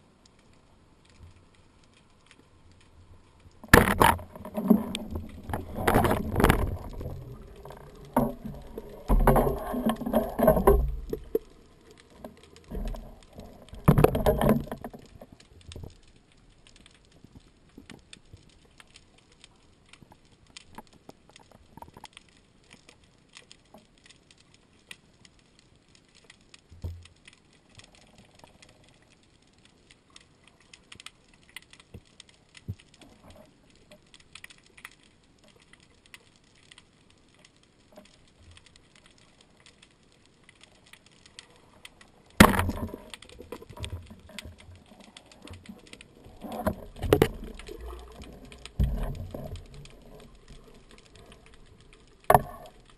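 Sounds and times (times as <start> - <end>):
faint clicks in water: 0.0 - 52.9
water churning underwater: 0.0 - 52.9.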